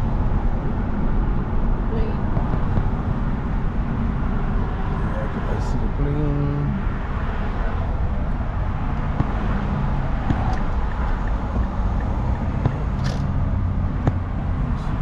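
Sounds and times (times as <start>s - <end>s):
car driving on highway: 0.0s - 15.0s.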